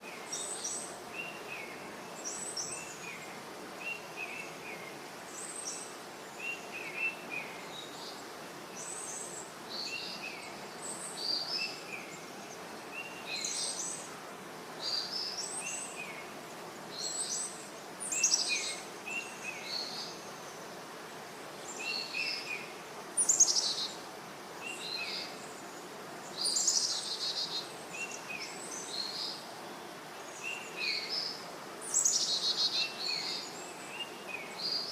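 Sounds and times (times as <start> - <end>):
faint ambient hiss: 0.0 - 34.9
songbirds chirping: 0.0 - 34.9.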